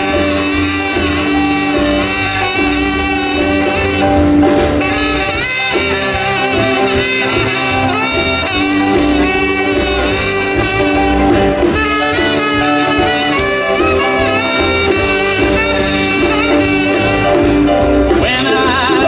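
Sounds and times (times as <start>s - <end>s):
bass guitar and drums: 0.0s - 19.0s
saxophone melody: 0.0s - 19.0s.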